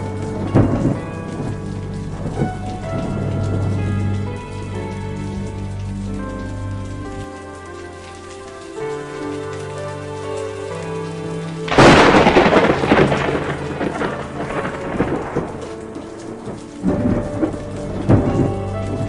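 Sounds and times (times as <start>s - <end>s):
soft sustained music notes: 0.0s - 19.0s
steady rain: 0.0s - 19.0s
thunder rumbling: 0.0s - 19.0s.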